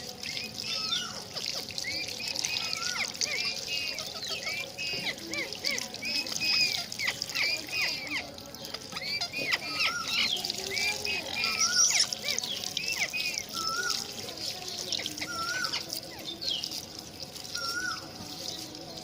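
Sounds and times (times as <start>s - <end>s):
parrots chattering and calling: 0.3s - 14.2s, 14.8s - 16.8s, 17.4s - 18.4s.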